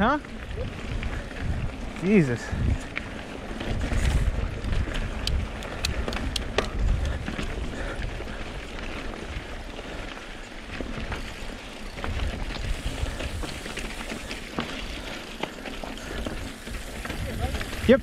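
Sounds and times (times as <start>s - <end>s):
bike clicking and rattling: 0.0s - 18.0s
wind rumbling on microphone: 0.0s - 18.0s.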